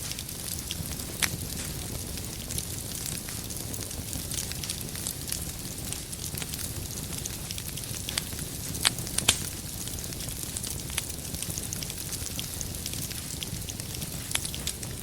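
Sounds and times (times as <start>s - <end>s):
campfire crackling: 0.0s - 15.0s
campfire pops: 0.0s - 15.0s.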